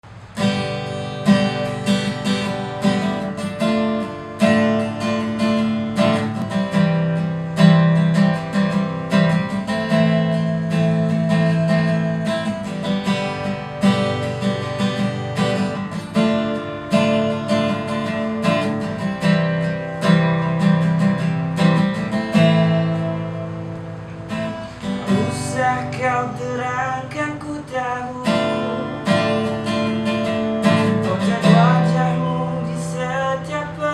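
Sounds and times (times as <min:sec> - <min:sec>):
acoustic guitar strumming: 0:00.0 - 0:33.9.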